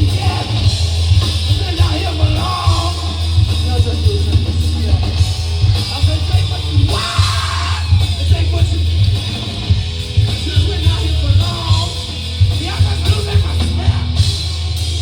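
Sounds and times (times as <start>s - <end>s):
electric guitar: 0.0s - 15.0s
heavy low bass: 0.0s - 15.0s
live rock band playing: 0.0s - 15.0s.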